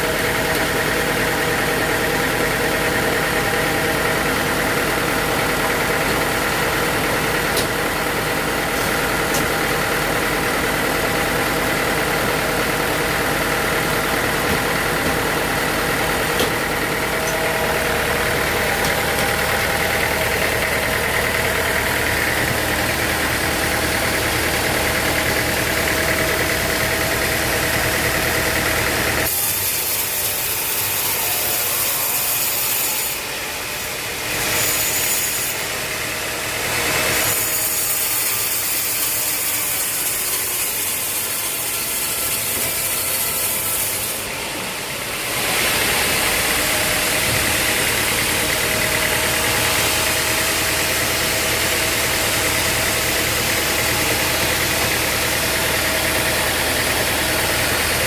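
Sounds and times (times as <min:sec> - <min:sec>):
sawmill engine hum: 0:00.0 - 0:58.0.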